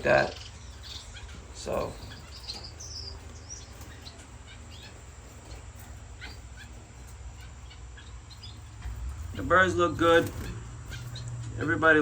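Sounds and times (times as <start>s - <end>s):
finches chirping: 0.0s - 12.0s
steady low hum: 0.0s - 12.0s.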